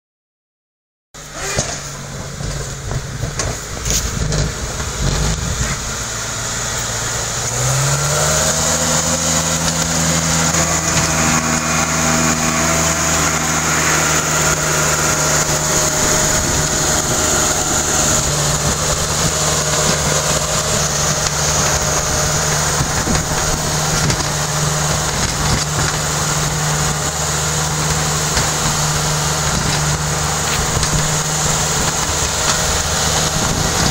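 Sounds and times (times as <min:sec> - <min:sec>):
vehicle engine running: 0:01.2 - 0:33.9.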